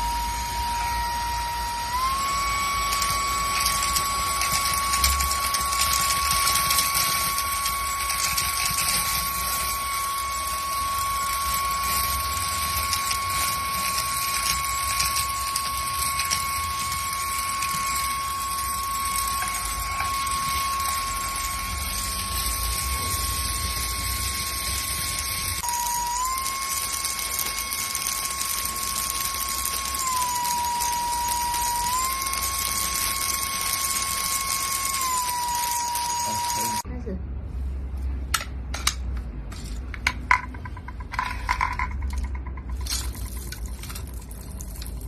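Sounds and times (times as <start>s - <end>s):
handheld vacuum cleaner whine: 0.0s - 36.9s, 40.0s - 45.0s.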